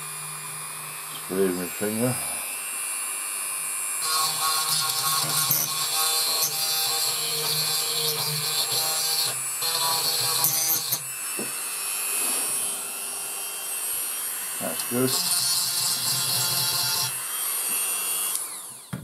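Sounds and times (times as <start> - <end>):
rotary tool motor whine: 0.0 - 19.0.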